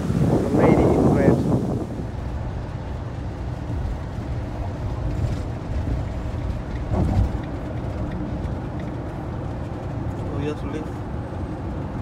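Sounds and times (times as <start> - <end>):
engine and tyre rumble in cab: 0.0 - 12.0.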